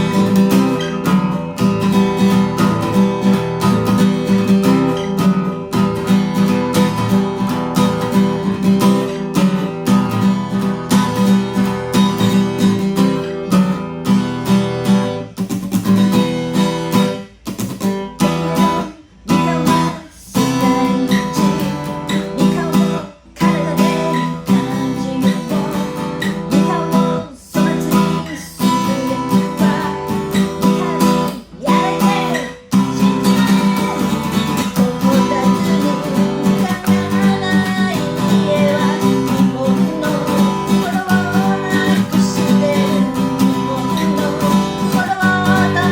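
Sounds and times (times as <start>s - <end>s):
acoustic guitar strumming chords: 0.0s - 45.9s.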